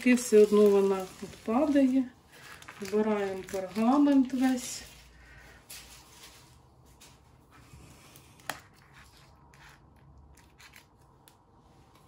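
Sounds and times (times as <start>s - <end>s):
parchment paper rustling: 0.0s - 12.0s.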